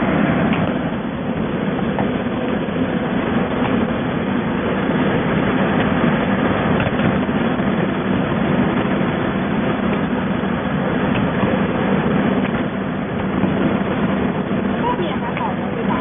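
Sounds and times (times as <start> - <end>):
shrink tunnel machine humming: 0.0 - 16.0.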